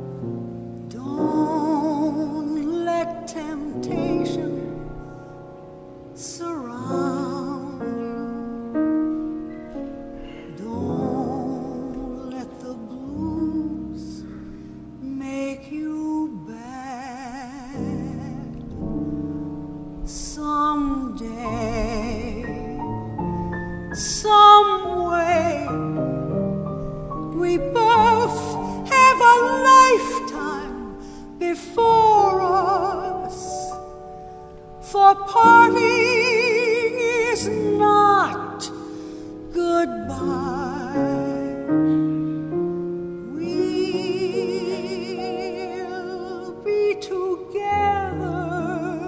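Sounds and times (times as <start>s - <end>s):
piano chords: 0.0s - 49.0s
woman singing a ballad: 0.8s - 26.4s, 27.0s - 49.0s.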